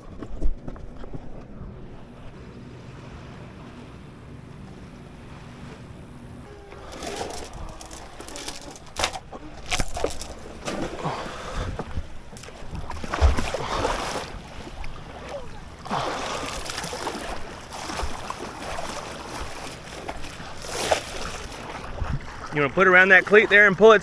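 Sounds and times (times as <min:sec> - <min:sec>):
water splashing around a boat: 0:00.0 - 0:08.2, 0:10.5 - 0:24.0.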